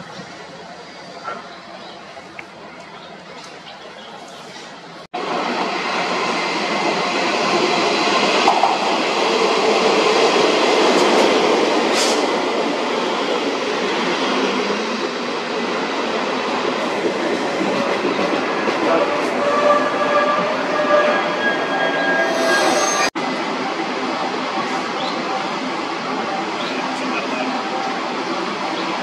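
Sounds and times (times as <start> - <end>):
train carriages rumbling on rails: 0.0 - 29.0.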